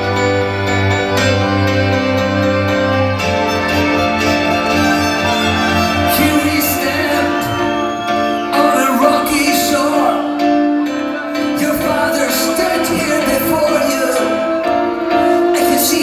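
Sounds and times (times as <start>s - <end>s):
fiddle solo: 0.0s - 12.8s
keyboard chords: 0.0s - 16.0s.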